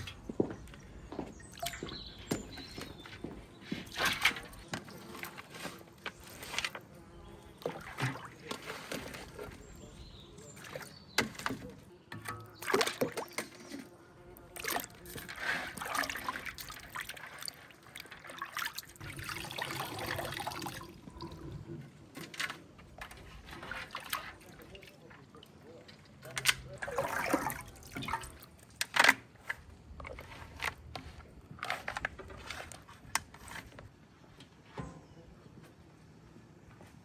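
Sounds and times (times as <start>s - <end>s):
water sloshing and trickling: 0.0s - 34.9s.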